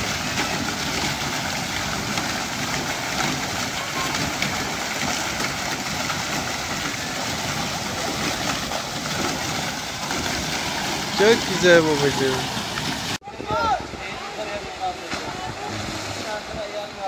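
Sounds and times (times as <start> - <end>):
water pouring and splashing: 0.0 - 13.2, 14.1 - 17.0.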